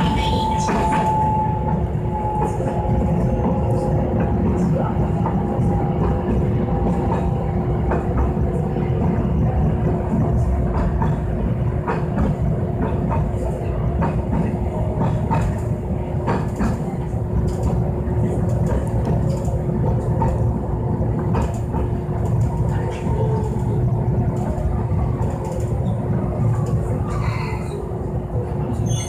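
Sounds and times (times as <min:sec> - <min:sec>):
tram rumbling on track: 0:00.0 - 0:29.0.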